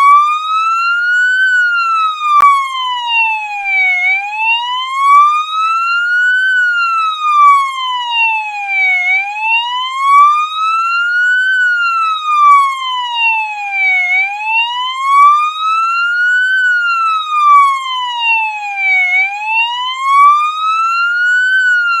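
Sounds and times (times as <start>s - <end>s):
police siren wailing: 0.0s - 22.0s.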